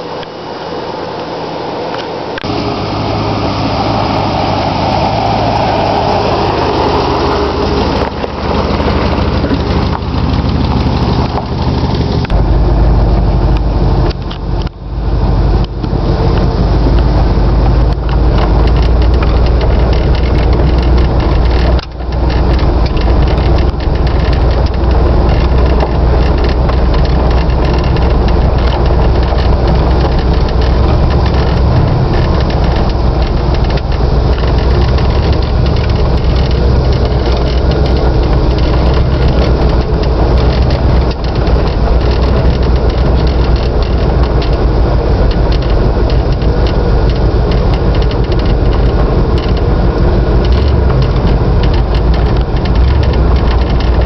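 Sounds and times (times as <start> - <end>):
pickup truck engine idling: 0.0 - 54.0.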